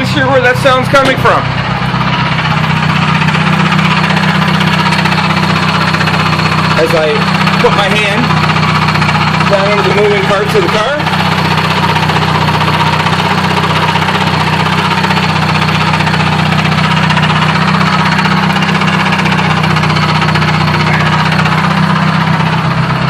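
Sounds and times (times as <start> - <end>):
car engine running: 0.0 - 23.0
drivetrain clanking: 0.0 - 23.0.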